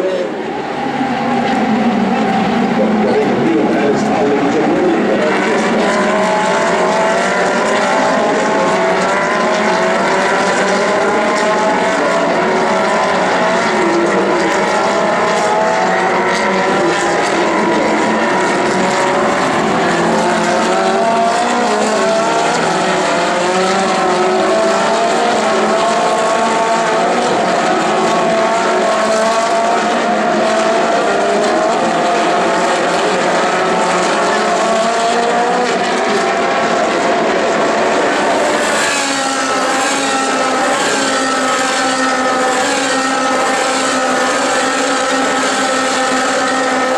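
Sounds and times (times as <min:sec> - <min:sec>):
race car engines at high revs: 0:00.0 - 0:46.9.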